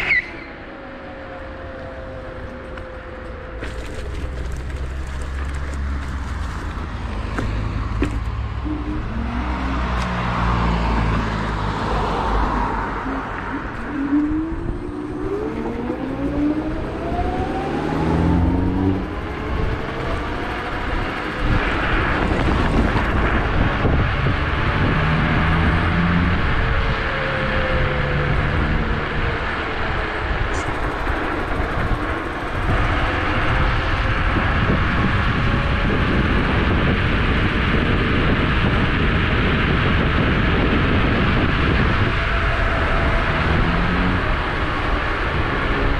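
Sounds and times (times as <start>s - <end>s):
electric scooter motor whining: 0.0s - 25.0s, 26.4s - 45.9s
steady rushing noise: 4.4s - 45.9s.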